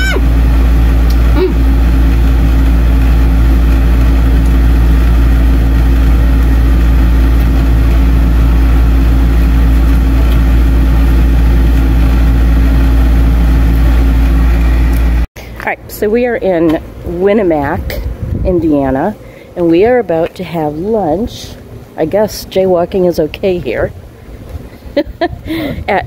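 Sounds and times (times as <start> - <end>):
vehicle engine droning: 0.0 - 22.2.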